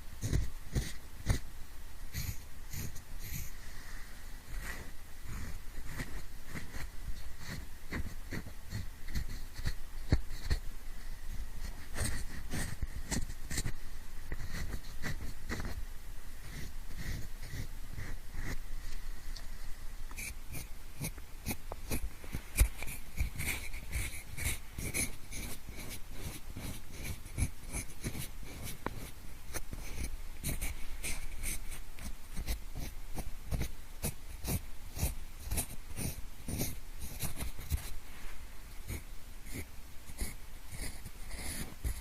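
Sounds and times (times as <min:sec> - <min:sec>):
pencil scratching and rubbing: 0:00.2 - 0:01.5, 0:02.1 - 0:10.6, 0:11.3 - 0:15.8, 0:16.4 - 0:18.6, 0:20.1 - 0:38.0, 0:38.8 - 0:42.0.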